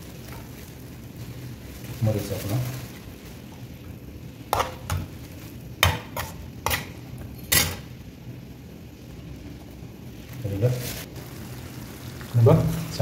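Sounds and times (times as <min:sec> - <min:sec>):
faint cooking pan sound: 0:00.0 - 0:13.0.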